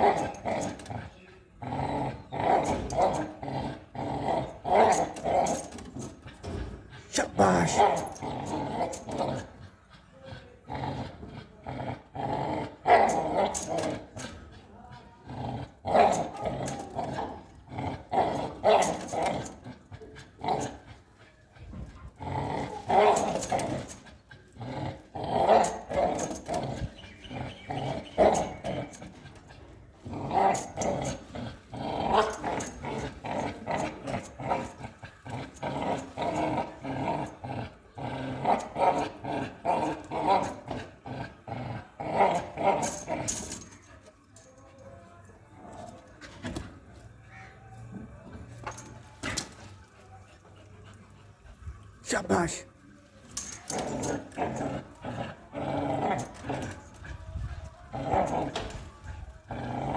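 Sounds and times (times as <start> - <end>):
dog growling: 0.0 - 43.9, 53.4 - 59.9.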